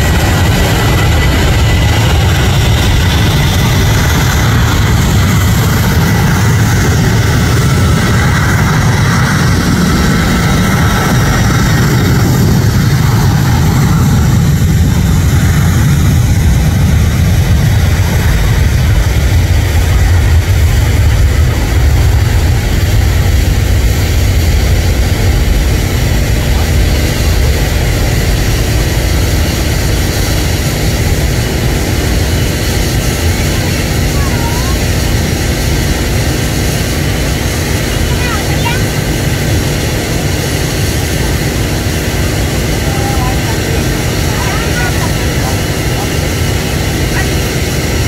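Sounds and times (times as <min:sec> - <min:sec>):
jet engines rumbling at takeoff: 0:00.0 - 0:48.0.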